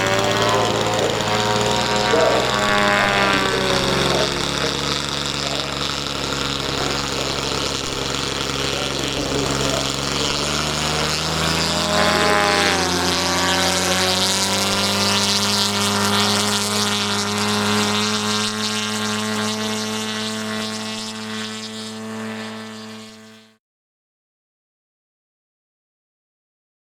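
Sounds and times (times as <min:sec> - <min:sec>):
propeller aircraft engine running: 0:00.0 - 0:23.6.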